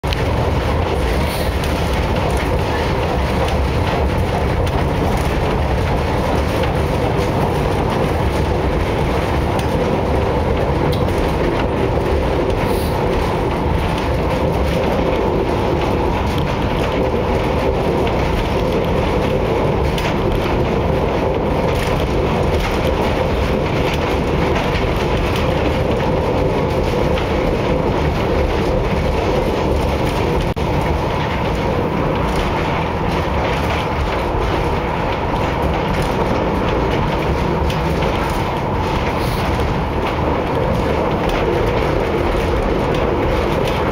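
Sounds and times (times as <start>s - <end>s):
wheels rumbling on rails: 0.0s - 43.9s.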